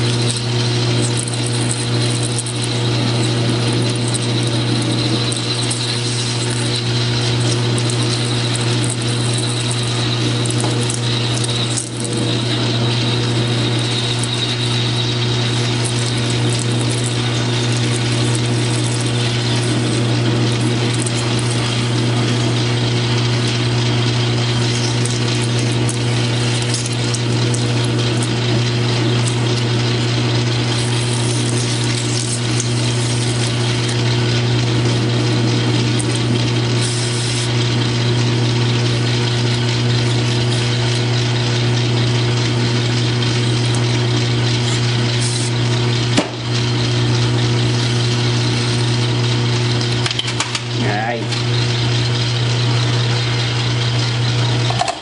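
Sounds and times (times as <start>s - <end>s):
cutting tool hissing on metal: 0.0s - 37.8s, 38.6s - 41.7s, 43.3s - 49.2s
lathe motor hum: 0.0s - 55.0s.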